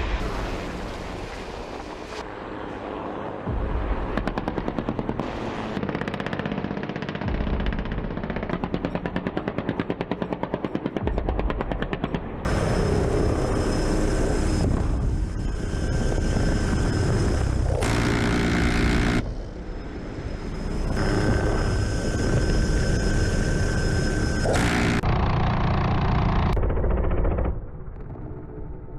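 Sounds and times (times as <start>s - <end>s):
helicopter turbines and rotors: 0.0s - 28.9s.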